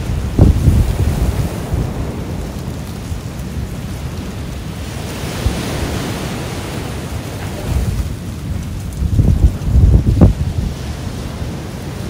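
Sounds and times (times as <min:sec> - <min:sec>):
ocean waves washing ashore: 0:00.0 - 0:12.0
wind buffeting microphone: 0:00.0 - 0:12.0.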